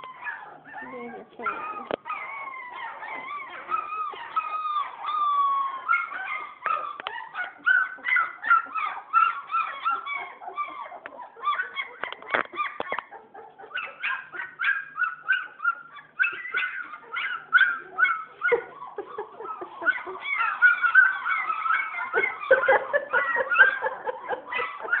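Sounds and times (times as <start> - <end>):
puppies squealing and whining: 0.0 - 25.0.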